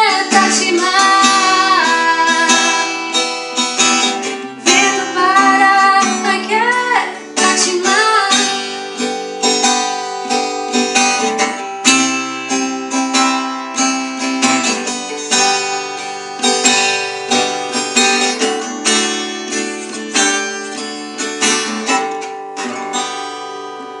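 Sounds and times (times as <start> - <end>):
acoustic guitar playing hymn: 0.0 - 24.0.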